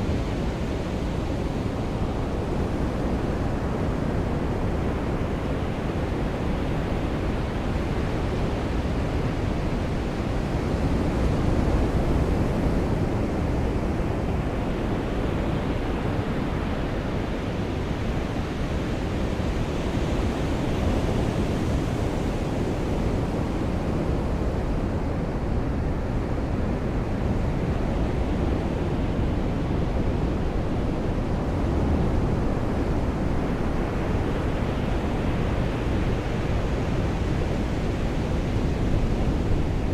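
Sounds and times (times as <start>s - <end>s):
surf washing on beach: 0.0s - 39.9s.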